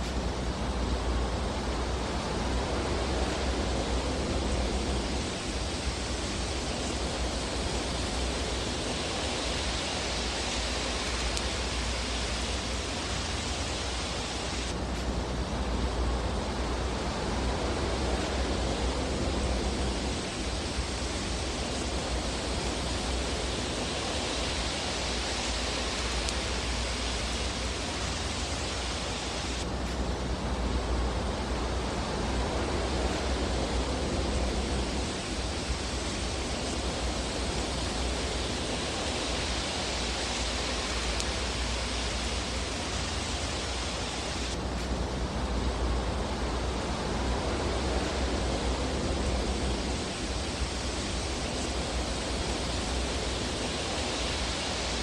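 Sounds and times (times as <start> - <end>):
fireplace fire hissing: 0.0 - 55.0.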